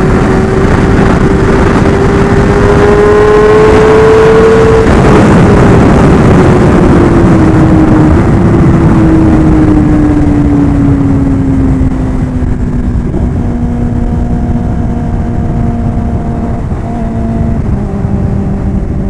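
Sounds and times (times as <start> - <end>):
motorcycle engine slowing: 0.0 - 19.0
wind rush over microphone: 0.0 - 19.0.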